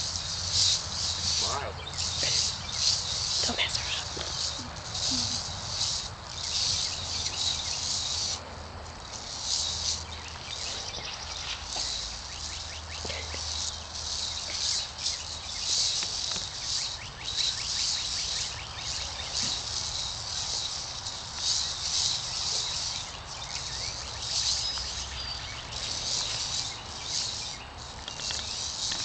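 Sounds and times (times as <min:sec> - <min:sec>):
insects buzzing in pulsing chorus: 0:00.0 - 0:29.0
low steady background hum: 0:00.0 - 0:29.0.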